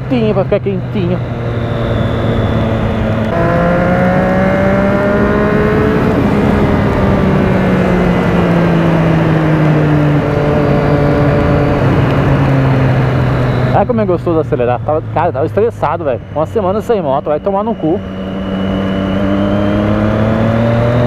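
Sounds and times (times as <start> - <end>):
motorcycle engine revving: 0.0 - 21.0
wind: 0.0 - 21.0.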